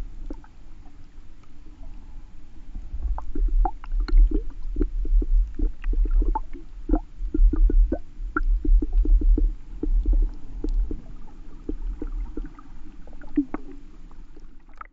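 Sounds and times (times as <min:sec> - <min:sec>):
underwater rumble: 0:00.0 - 0:14.9.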